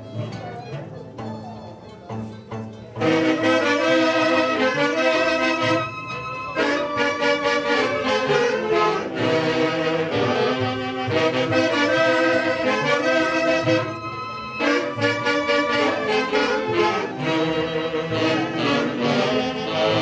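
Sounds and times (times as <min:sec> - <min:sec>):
saxophones and clarinets band music: 0:00.0 - 0:20.0.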